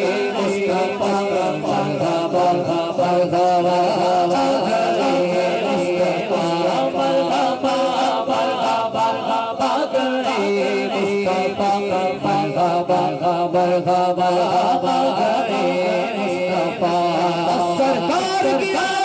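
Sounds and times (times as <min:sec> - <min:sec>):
men singing into microphones: 0:00.0 - 0:19.0.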